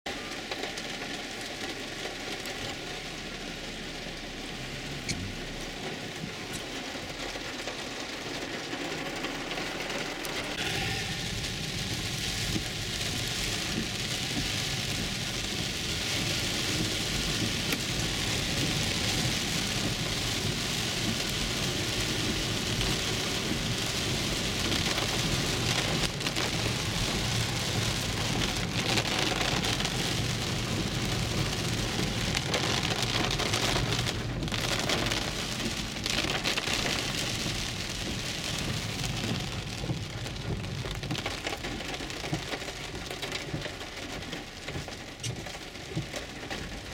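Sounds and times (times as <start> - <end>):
heavy rain on a car roof: 0.1 - 46.9.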